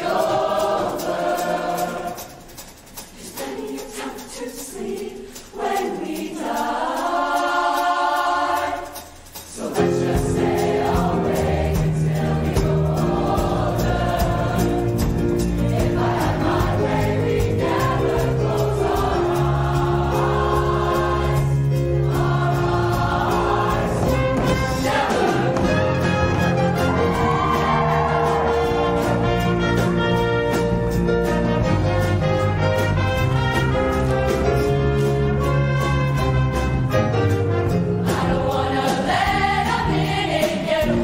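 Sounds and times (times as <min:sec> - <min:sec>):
choir singing in harmony: 0:00.0 - 0:41.0.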